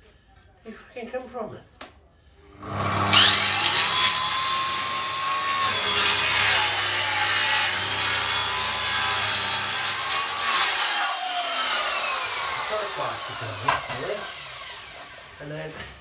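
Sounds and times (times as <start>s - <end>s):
power saw cutting wood: 2.5s - 16.0s.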